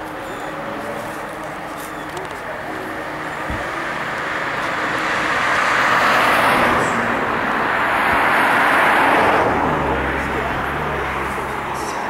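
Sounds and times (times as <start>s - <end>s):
cars passing with tyre noise: 0.0s - 12.0s.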